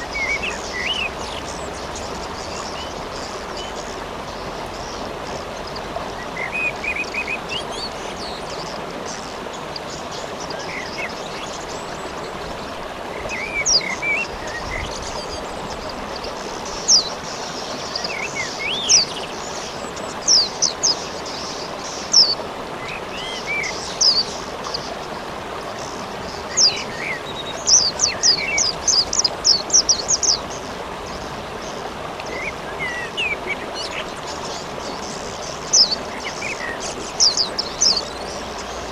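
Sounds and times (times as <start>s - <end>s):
songbird chirping: 0.0s - 38.9s
steady rain hiss: 0.0s - 38.9s.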